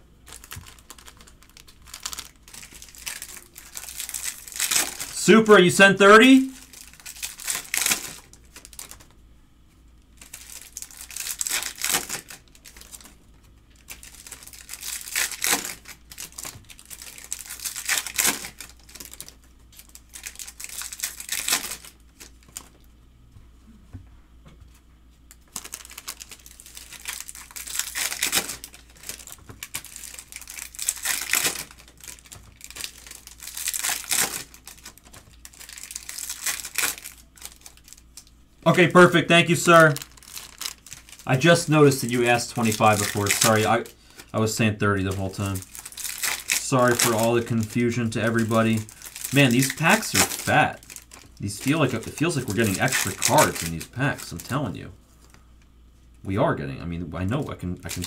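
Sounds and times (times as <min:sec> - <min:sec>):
foil wrappers crinkling and tearing: 0:00.0 - 0:09.2, 0:10.0 - 0:22.9, 0:25.3 - 0:55.6, 0:57.3 - 0:58.0.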